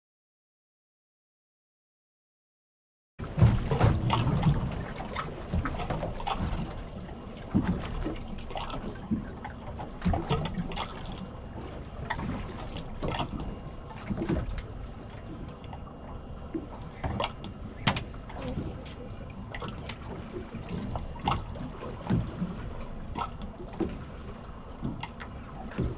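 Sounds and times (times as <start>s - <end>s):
water lapping against boat hull: 3.2s - 25.9s.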